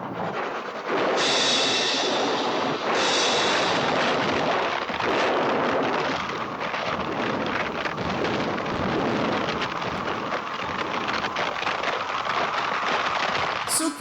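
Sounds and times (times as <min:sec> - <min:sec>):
low thunder-like rumbling: 0:00.0 - 0:13.7
hiss of artificial rain and wind: 0:00.0 - 0:14.0.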